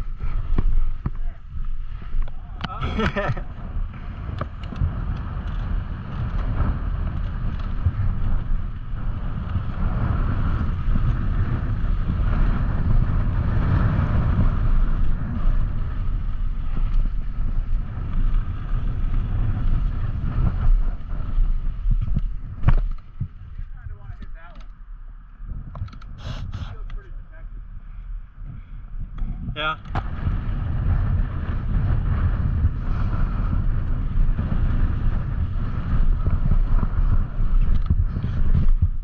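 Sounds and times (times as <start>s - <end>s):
bike tyres rumbling over dirt: 0.0s - 24.6s, 27.6s - 39.0s
wind buffeting microphone: 0.0s - 39.0s.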